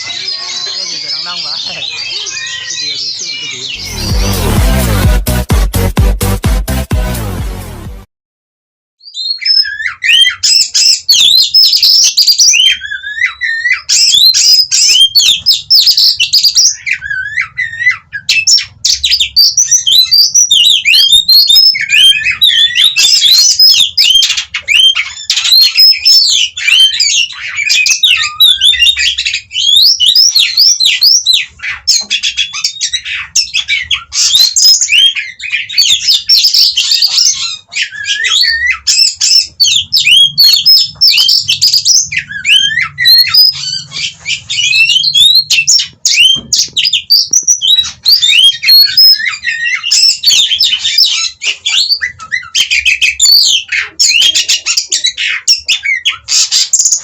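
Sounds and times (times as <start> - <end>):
bird singing whistles and chatter: 0.0 - 4.5, 9.0 - 57.0.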